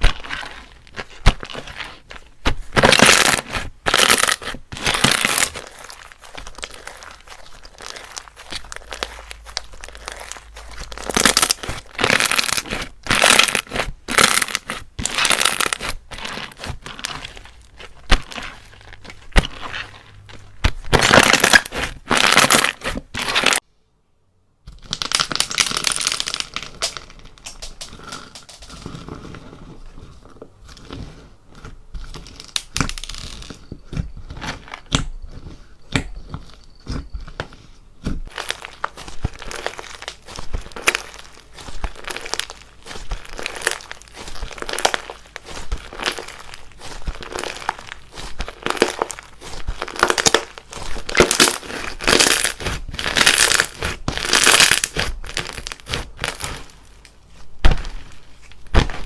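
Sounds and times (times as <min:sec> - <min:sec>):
crunchy slime crackling and popping: 0:00.0 - 0:23.6, 0:24.7 - 0:59.0.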